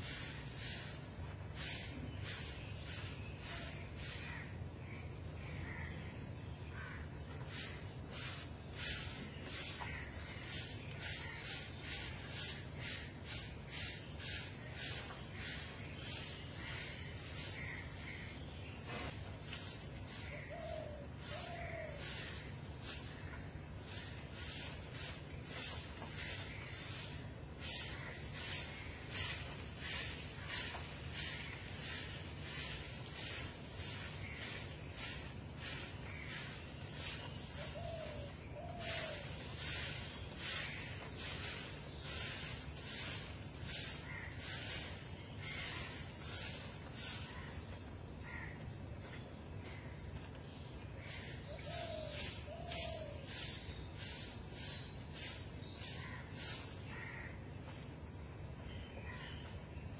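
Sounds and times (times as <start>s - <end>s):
broom sweeping dirt: 0.0s - 59.9s.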